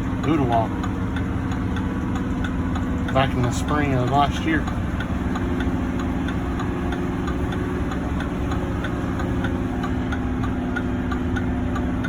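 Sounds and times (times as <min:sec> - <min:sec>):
truck engine running: 0:00.0 - 0:12.0
light regular tick: 0:00.1 - 0:12.0.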